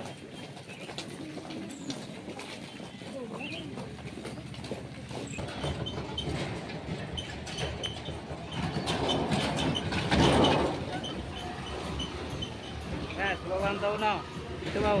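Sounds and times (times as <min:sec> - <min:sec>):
motor cart rattling past: 0:00.0 - 0:15.0.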